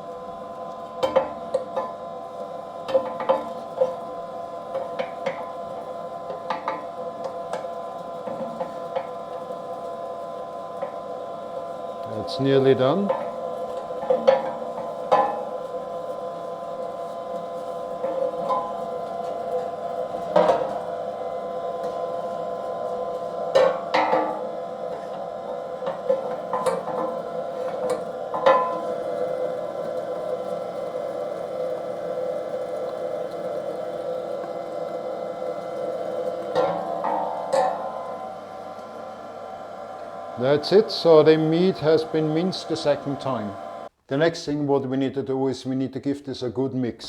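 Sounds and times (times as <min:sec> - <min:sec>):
electric meat grinder running: 0:00.0 - 0:43.9.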